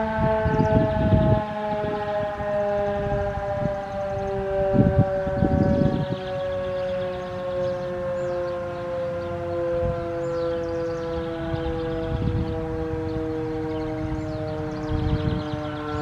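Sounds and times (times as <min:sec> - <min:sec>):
warning siren sliding down in pitch: 0:00.0 - 0:16.0.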